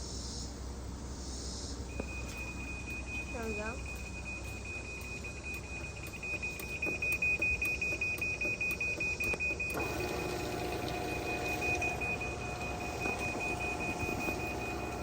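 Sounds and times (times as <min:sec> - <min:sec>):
garage door motor humming: 0:01.9 - 0:15.0
garage door opener warning beep: 0:01.9 - 0:15.0.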